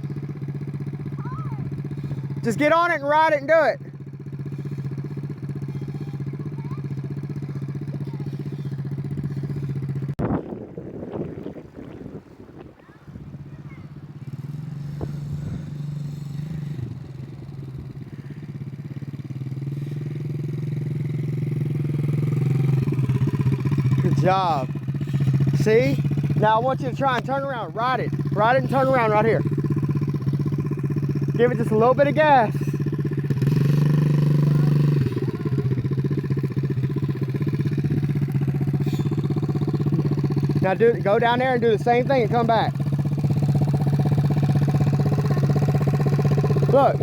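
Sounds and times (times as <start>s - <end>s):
dirt bike engine running: 0.0s - 12.0s, 13.4s - 47.0s.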